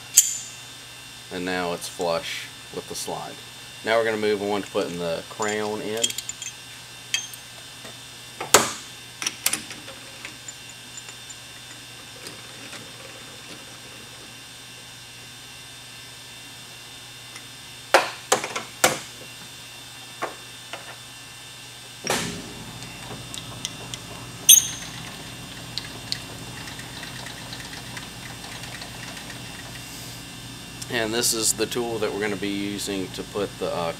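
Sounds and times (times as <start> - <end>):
low machine hum: 0.0 - 33.9.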